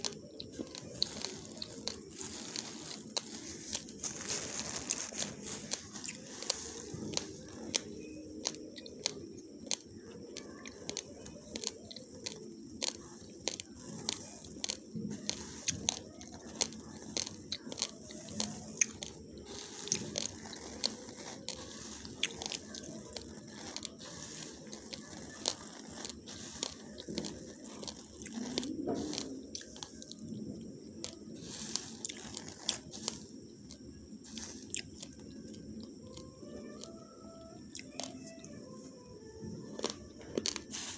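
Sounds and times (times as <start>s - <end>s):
chewing raw rice grains: 0.0s - 40.9s.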